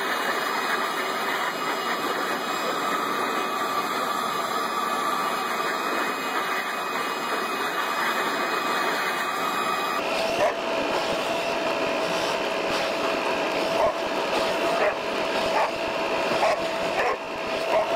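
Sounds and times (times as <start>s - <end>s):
leaf blower running: 0.0s - 17.9s.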